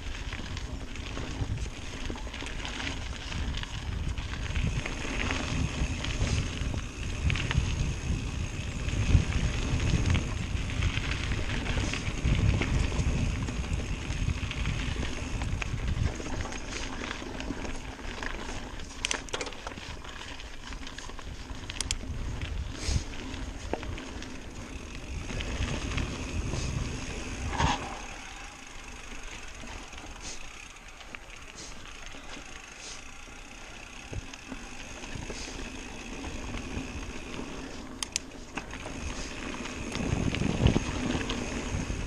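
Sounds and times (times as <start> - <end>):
bike rattles and knocks: 0.0 - 42.0
mountain bike rumbling on dirt: 0.0 - 42.0.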